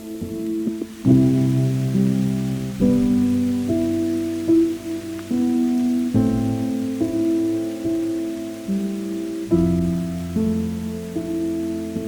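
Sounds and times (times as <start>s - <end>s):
rain hiss: 0.0s - 12.0s
soft instrumental music: 0.0s - 12.0s.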